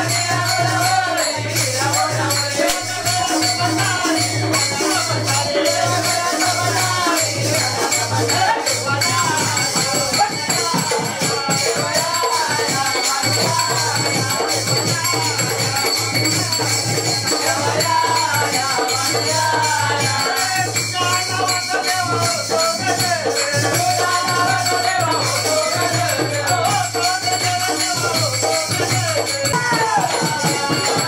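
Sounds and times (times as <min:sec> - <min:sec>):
shaken jingling percussion: 0:00.0 - 0:31.0.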